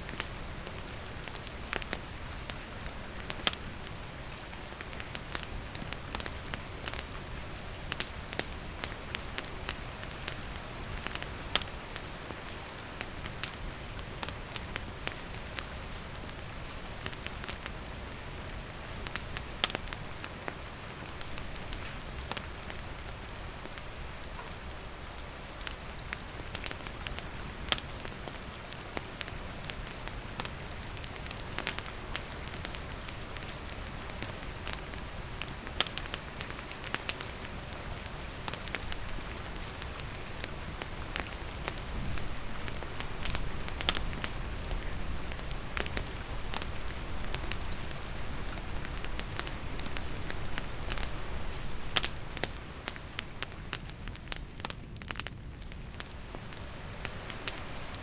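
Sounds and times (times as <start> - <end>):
campfire crackling and popping: 0.0 - 58.0
rain falling: 0.0 - 58.0.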